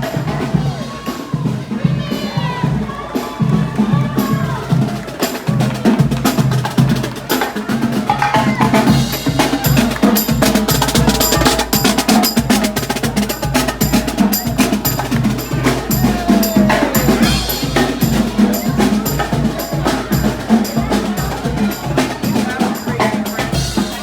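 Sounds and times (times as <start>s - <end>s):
bass drum beats: 0.0s - 24.0s
snare drum strokes: 0.0s - 24.0s.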